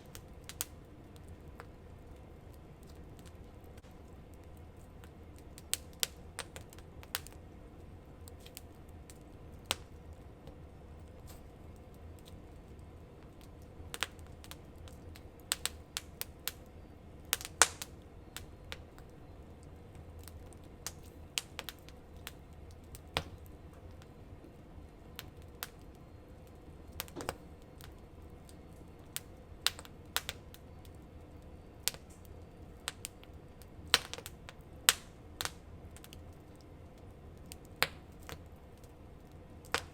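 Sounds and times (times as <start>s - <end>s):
burning wood popping: 0.0s - 39.9s
campfire crackling: 0.0s - 39.9s.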